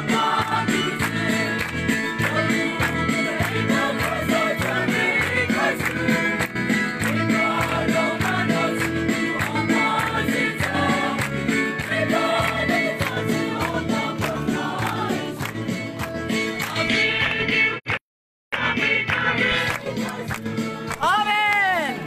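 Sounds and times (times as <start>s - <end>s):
crowd singing a hymn: 0.0s - 17.8s, 18.6s - 21.2s
hand claps: 0.1s - 18.0s, 18.9s - 22.0s.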